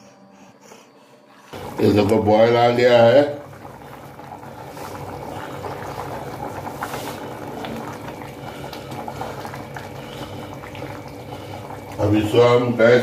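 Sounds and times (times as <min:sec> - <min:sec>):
rice boiling and bubbling: 0:01.5 - 0:13.0.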